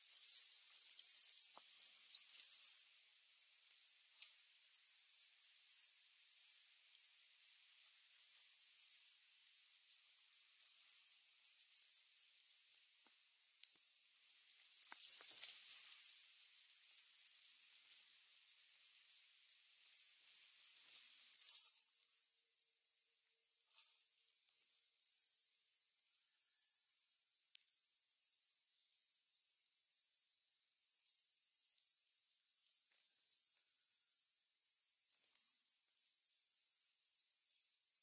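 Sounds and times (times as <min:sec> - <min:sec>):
faint bird chirp: 0:00.0 - 0:38.0.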